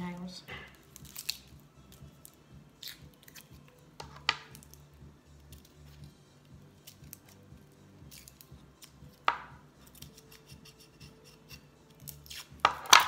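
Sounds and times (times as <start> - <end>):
onion skin crackling: 0.7 - 4.8, 6.7 - 13.0.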